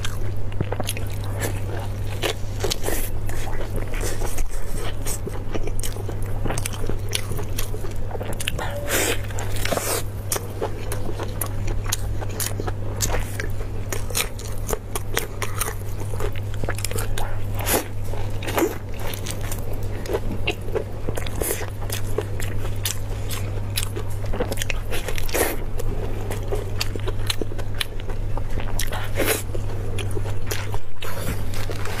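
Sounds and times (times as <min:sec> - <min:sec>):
close-miked chewing and biting: 0:00.0 - 0:32.0
steady low hum: 0:00.0 - 0:32.0.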